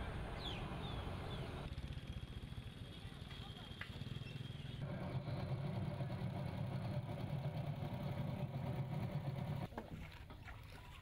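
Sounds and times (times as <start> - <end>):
small boat engine humming: 0.0 - 11.0.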